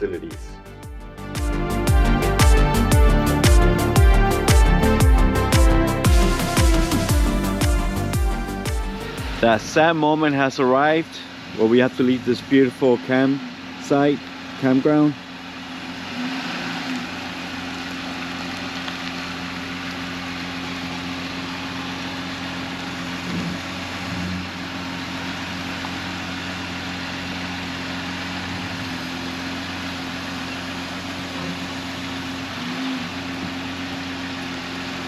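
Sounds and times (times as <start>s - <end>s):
vehicle engine idling: 0.0s - 35.0s.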